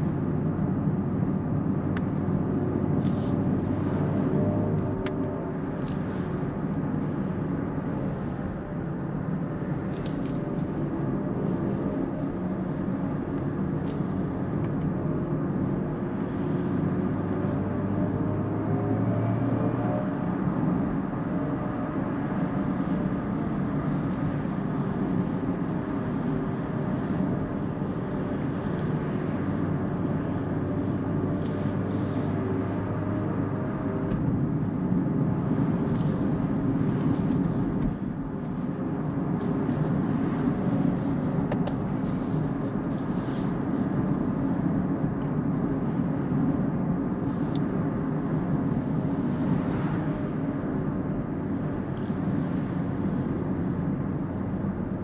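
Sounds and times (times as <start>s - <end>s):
tyre and road noise in car: 0.0s - 55.0s.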